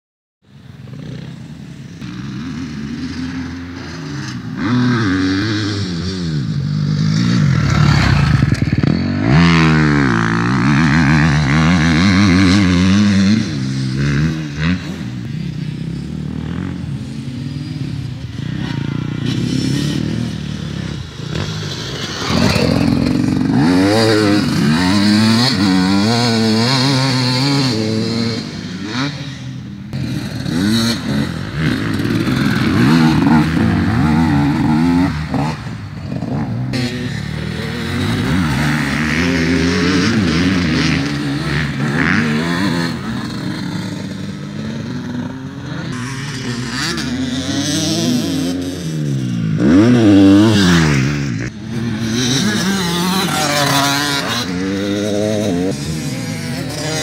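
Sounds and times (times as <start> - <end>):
dirt bike engines revving: 0.5 - 57.0.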